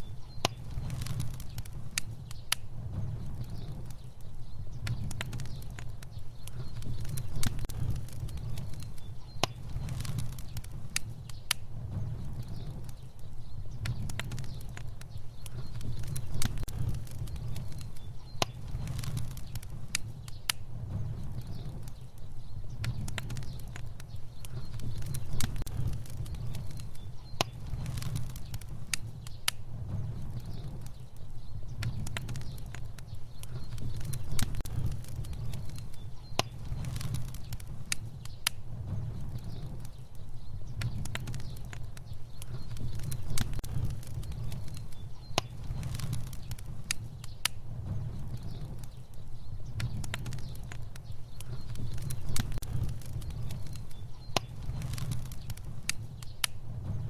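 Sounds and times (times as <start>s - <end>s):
fire burning: 0.0s - 57.0s
flames crackling and popping: 0.0s - 57.0s.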